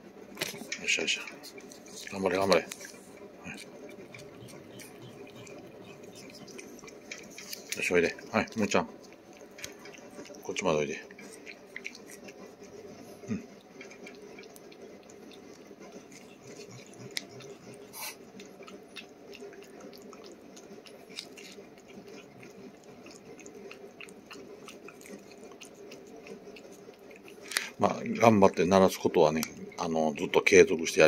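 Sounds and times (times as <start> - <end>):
cat lapping and smacking: 0.2 - 31.0.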